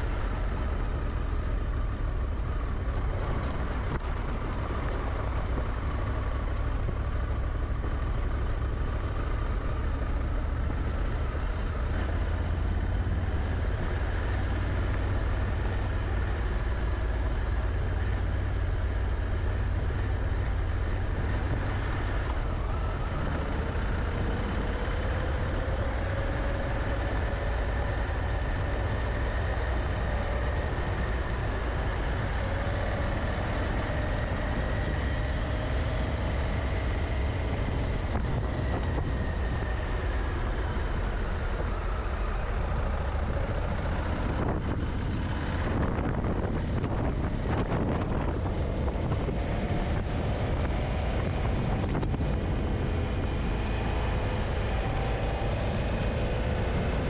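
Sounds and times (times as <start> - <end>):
motorcycle engine droning: 0.0 - 57.0
wind and tyre noise: 0.0 - 57.0.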